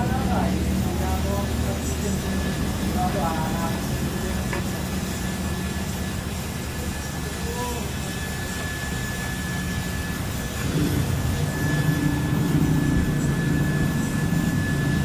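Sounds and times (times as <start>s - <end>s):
faint high whine: 0.0s - 15.0s
low hum: 0.0s - 15.0s
motor droning: 0.0s - 15.0s.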